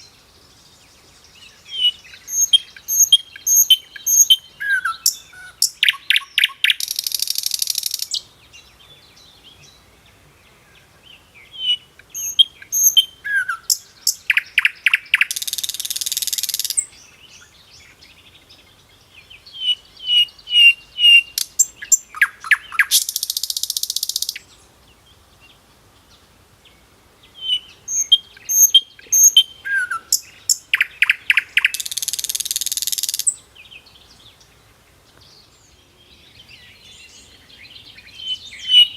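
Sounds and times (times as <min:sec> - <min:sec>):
bird singing chirps and buzzy trill: 0:00.0 - 0:38.9.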